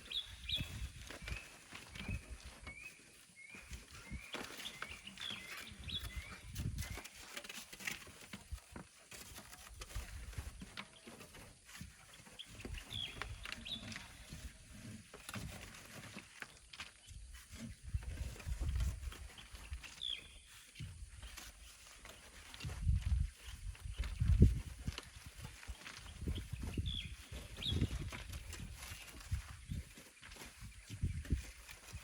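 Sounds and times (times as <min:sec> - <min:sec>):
small bird chirping: 0:00.0 - 0:07.4, 0:12.0 - 0:15.4, 0:16.2 - 0:32.0.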